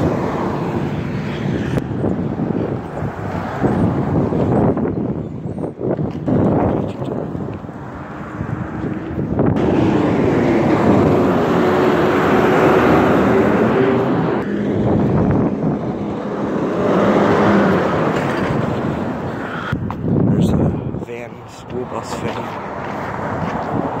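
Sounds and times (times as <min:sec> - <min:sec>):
dump truck passing: 0:00.0 - 0:19.8
road traffic passing: 0:00.0 - 0:24.0.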